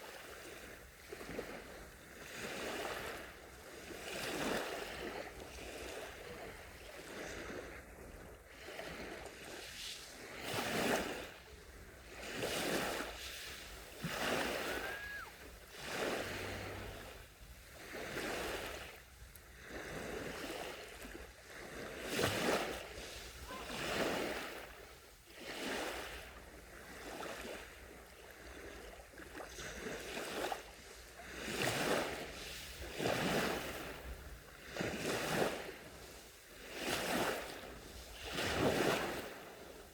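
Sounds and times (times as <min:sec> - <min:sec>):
gentle waves washing on shore: 0:00.0 - 0:39.9.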